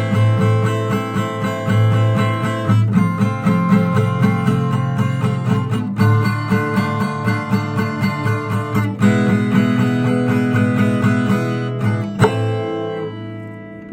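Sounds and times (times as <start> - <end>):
acoustic guitar strumming chords: 0.0 - 13.9.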